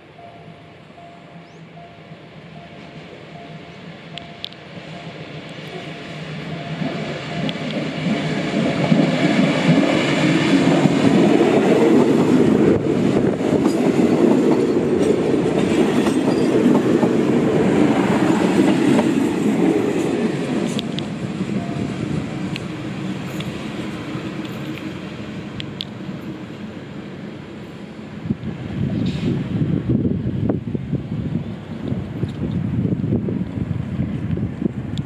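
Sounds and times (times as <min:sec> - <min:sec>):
diesel train passing: 0:00.0 - 0:35.0
wheels clickety-clack on rails: 0:02.6 - 0:26.8, 0:27.5 - 0:35.0.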